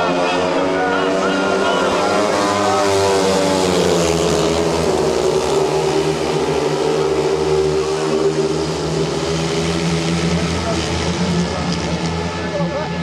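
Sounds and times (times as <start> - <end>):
motorcycles racing at high revs: 0.0 - 13.0.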